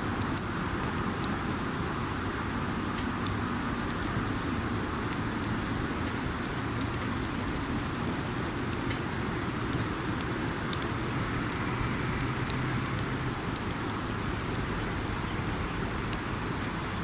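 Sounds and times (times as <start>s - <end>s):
campfire crackling and popping: 0.0s - 17.0s
low rushing fire rumble: 0.0s - 17.0s.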